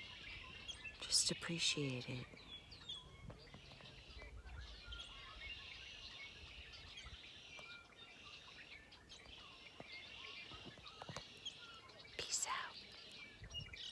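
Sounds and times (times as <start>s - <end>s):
small songbirds chirping: 0.0s - 13.9s.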